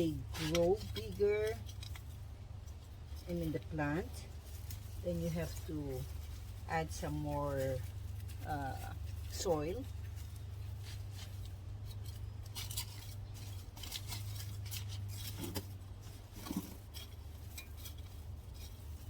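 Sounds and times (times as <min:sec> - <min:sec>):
hands digging through soil: 0:00.0 - 0:19.0.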